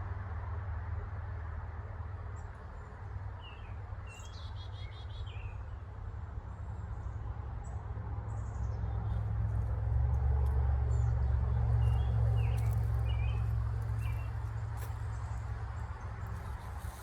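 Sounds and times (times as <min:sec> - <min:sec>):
songbirds chirping: 0:02.1 - 0:17.0.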